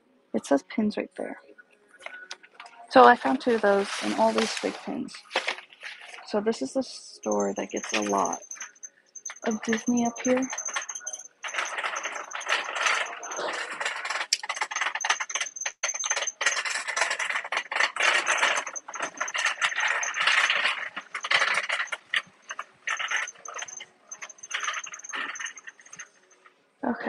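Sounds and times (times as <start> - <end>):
shopping cart rattling: 3.0 - 26.5.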